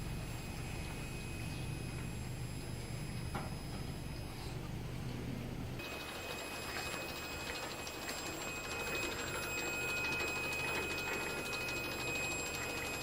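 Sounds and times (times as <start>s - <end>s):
steady high whine: 0.0s - 13.0s.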